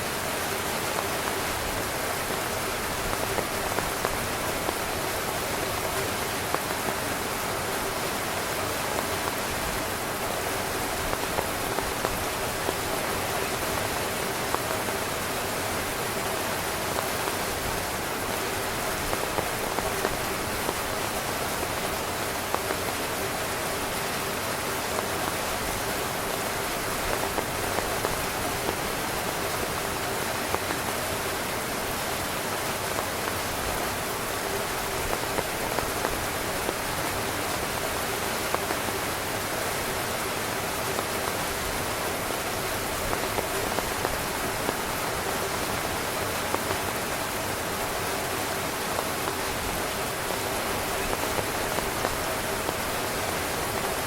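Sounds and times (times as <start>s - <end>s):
heavy rain drumming on a tent: 0.0s - 54.0s.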